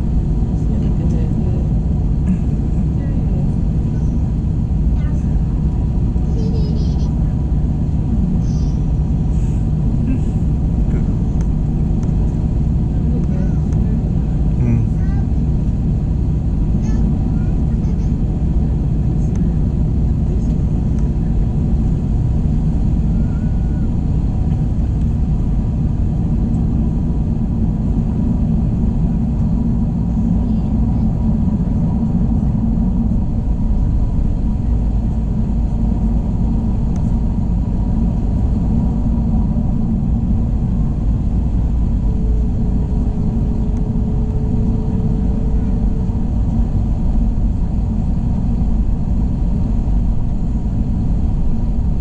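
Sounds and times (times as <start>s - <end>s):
airplane cabin engine roar: 0.0s - 52.0s.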